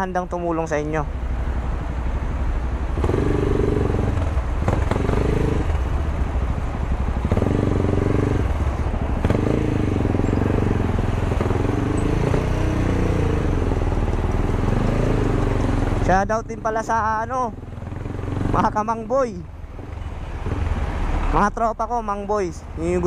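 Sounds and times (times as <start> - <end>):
motorcycle engine revving: 2.8 - 21.4.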